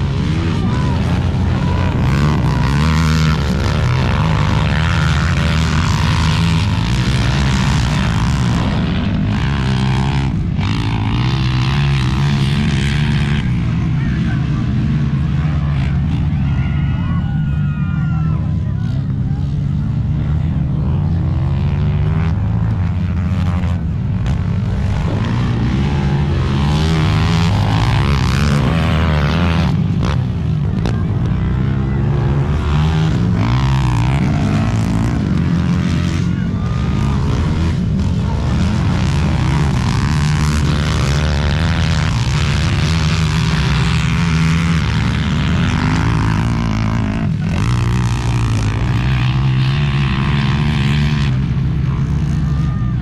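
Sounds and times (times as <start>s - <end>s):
motor engines revving: 0.0s - 53.0s.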